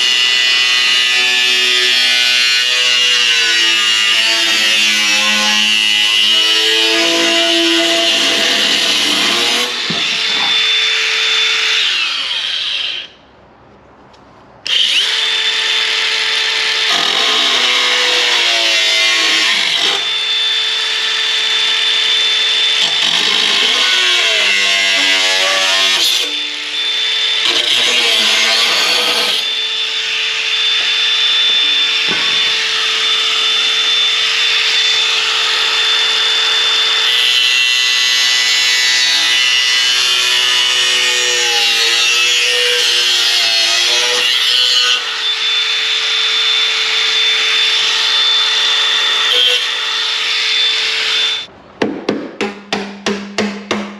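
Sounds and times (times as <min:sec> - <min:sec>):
angle grinder grinding metal: 0:00.0 - 0:13.1, 0:14.7 - 0:51.5.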